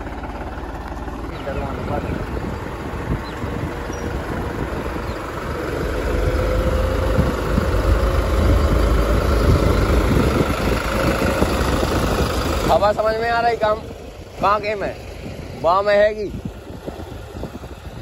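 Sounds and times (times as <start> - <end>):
tractor diesel engine rumbling: 0.0 - 18.0.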